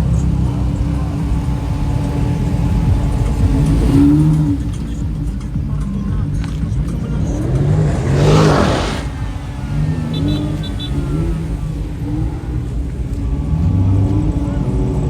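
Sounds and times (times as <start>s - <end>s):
car engines revving: 0.0s - 15.0s
car passing close: 0.0s - 15.0s.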